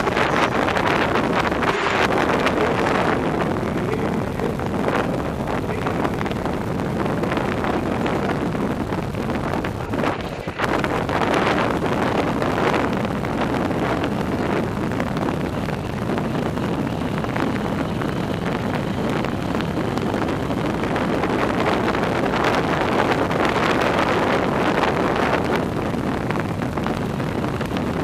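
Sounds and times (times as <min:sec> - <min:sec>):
wind rushing on microphone: 0:00.0 - 0:28.0.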